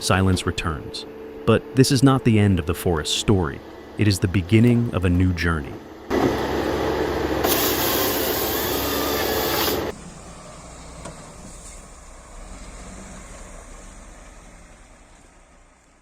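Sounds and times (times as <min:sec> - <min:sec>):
logging machinery noise: 0:00.0 - 0:14.6.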